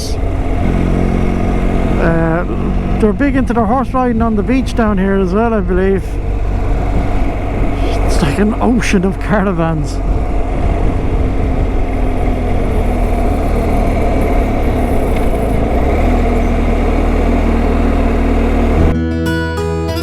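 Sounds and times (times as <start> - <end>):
motorcycle engine running: 0.0 - 19.0
wind rushing: 0.0 - 19.0
acoustic guitar music: 0.0 - 20.0.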